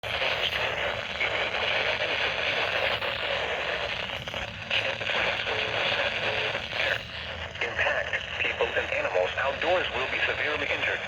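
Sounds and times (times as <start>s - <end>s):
radio static hiss and crackle: 0.0s - 11.0s.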